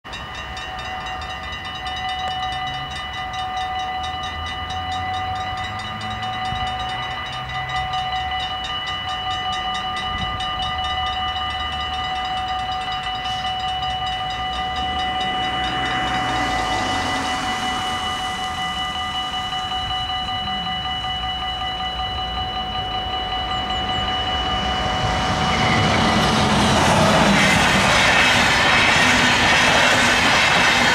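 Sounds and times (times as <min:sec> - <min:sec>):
level crossing bell ringing: 0:00.0 - 0:27.4.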